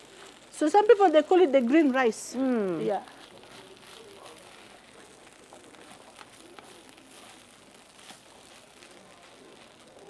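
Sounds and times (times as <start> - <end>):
rice frying in a pan: 0.0 - 10.0.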